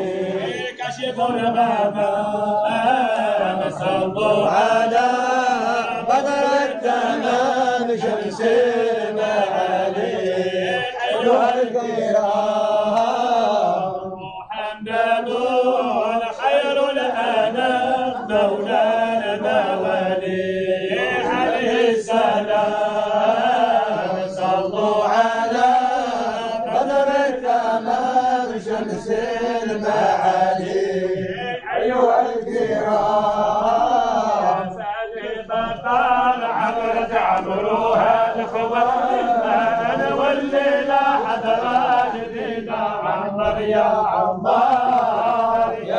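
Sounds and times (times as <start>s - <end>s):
voices chanting: 0.0s - 45.9s.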